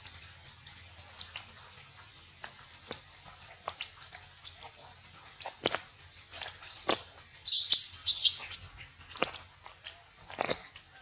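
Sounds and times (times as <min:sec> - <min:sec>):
monkey chewing and lip-smacking: 0:00.0 - 0:11.0.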